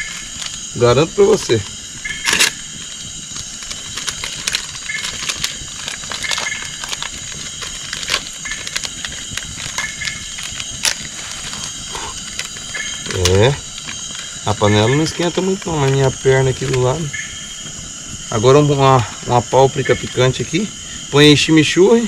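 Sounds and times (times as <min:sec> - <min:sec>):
chorus of insects: 0:00.0 - 0:22.0
fire crackling and popping: 0:00.0 - 0:22.0.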